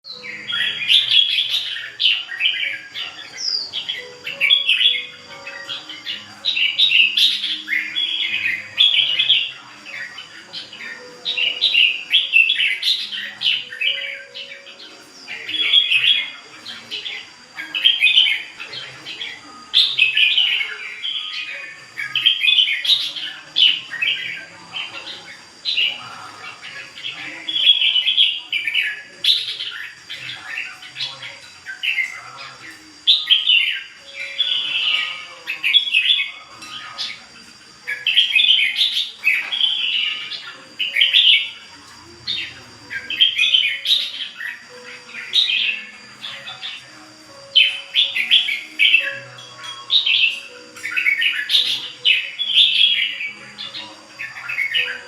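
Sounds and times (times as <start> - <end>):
bird warbling song: 0.0 - 55.0.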